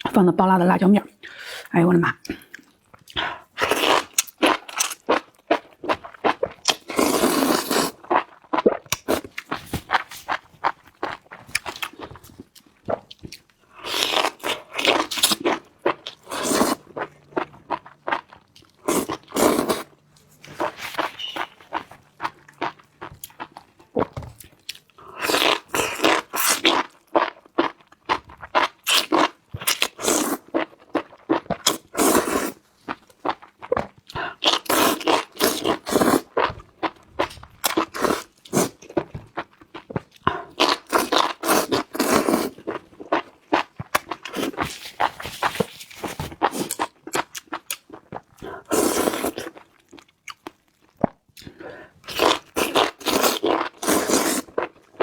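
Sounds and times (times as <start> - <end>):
crunching and chewing: 2.3 - 55.0.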